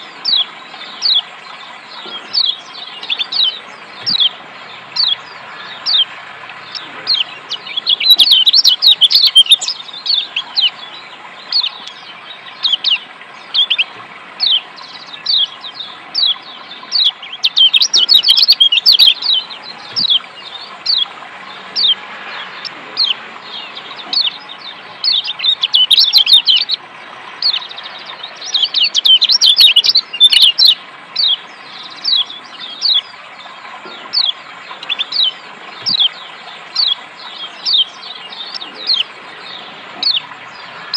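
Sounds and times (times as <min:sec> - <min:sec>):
bird chirping: 0:00.0 - 0:26.8, 0:27.4 - 0:40.9
bird rapid twittering: 0:00.0 - 0:26.8, 0:27.4 - 0:33.2, 0:33.9 - 0:40.9
running water hiss: 0:00.0 - 0:40.9.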